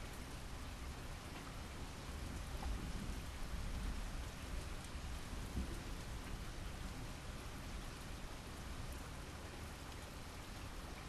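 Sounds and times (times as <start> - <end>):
low rumble of thunder: 0.0 - 11.0
steady rain falling: 0.0 - 11.0.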